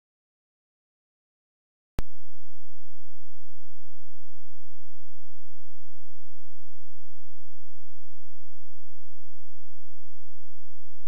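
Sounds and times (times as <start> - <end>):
electronic hum with whining tones: 2.0 - 11.0.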